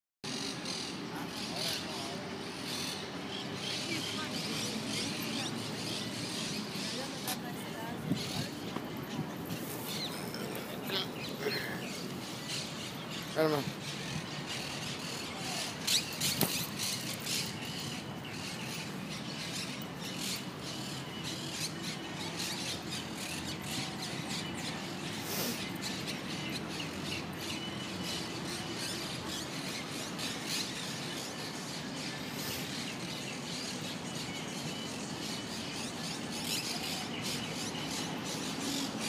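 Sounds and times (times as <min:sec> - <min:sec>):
steady low background noise: 0:00.2 - 0:39.0
birds calling: 0:00.3 - 0:39.0.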